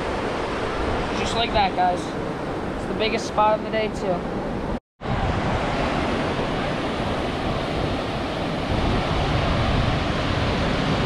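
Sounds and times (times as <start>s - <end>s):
ocean surf breaking: 0.0s - 11.0s
wind rumbling on microphone: 0.0s - 11.0s.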